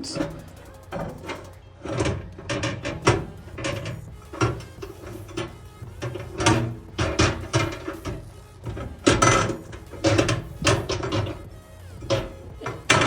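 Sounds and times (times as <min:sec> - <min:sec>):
microwave parts knocking and clattering: 0:00.0 - 0:13.0.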